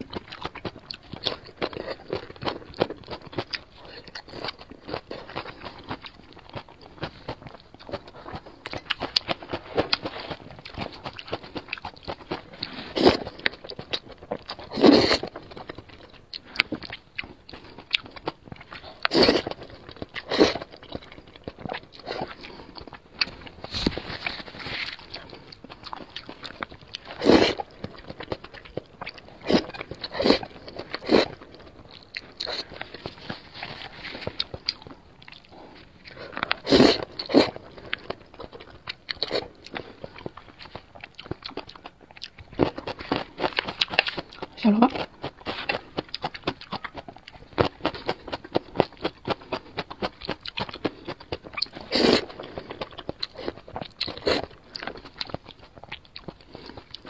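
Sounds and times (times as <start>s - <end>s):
chewing noodles: 0.0s - 57.0s.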